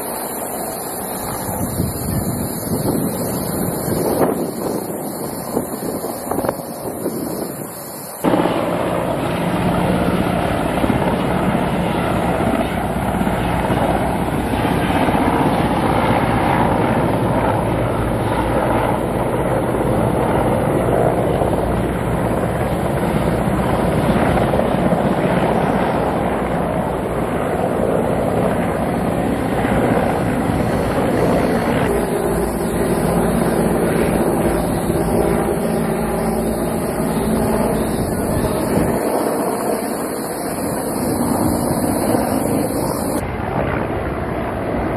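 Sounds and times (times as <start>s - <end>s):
helicopter engine and rotor drone: 0.0s - 44.9s.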